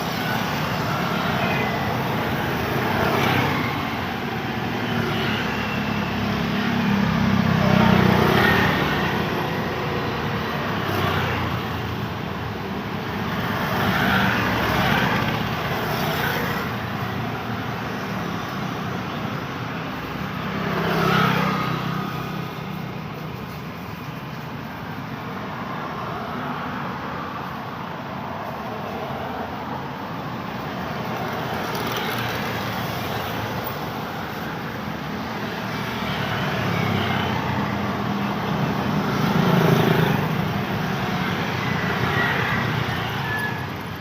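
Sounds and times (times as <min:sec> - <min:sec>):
roar of road traffic: 0:00.0 - 0:44.0
vehicles passing: 0:00.0 - 0:44.0.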